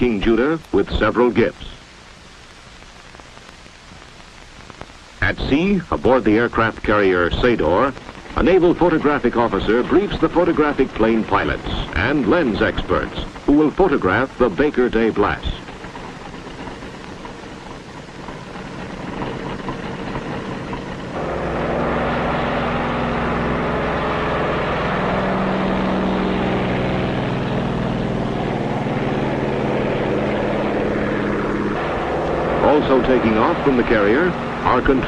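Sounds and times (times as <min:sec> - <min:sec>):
propeller aircraft engines droning: 0:05.2 - 0:35.0.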